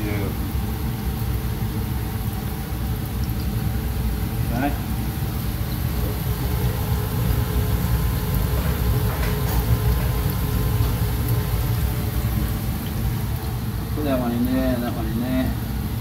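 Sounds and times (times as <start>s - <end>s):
fish sizzling in hot oil: 0.0s - 16.0s
steady low rumble: 2.3s - 16.0s.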